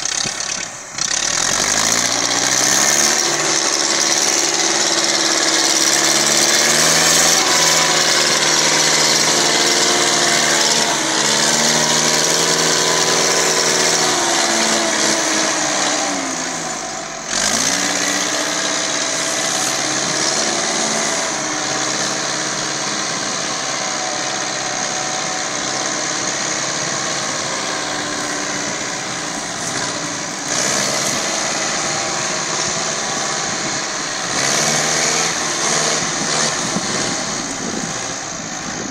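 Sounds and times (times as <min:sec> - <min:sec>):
tractor diesel engine labouring: 0:00.0 - 0:38.9.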